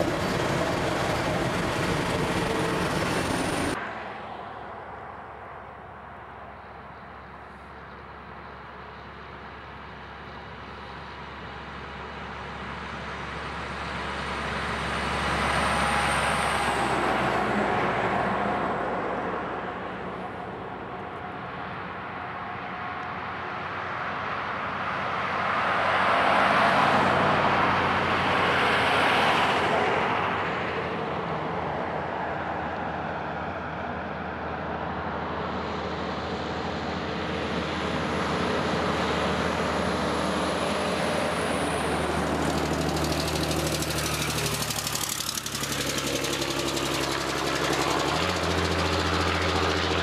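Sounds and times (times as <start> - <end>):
heavy truck diesel and tyres: 0.0 - 50.0
vehicle tyres and engine passing: 0.0 - 50.0.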